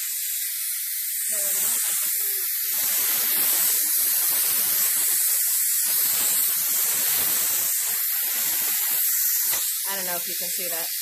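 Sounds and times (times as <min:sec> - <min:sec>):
steam valve hissing: 0:00.0 - 0:11.0.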